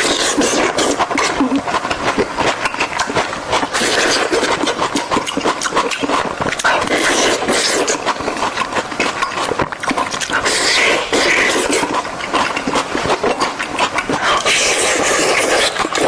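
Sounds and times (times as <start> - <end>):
chewing fresh fruit: 0.0 - 16.0.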